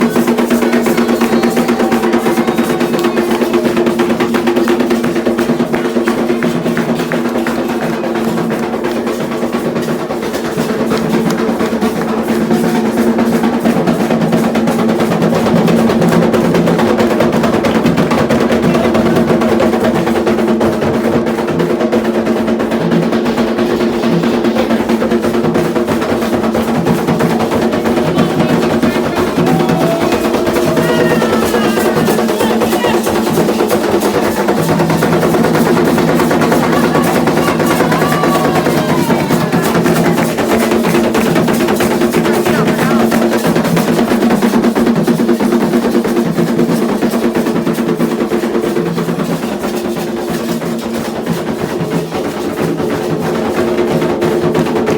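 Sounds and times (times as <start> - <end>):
hand drums playing fast rhythm: 0.0 - 54.9.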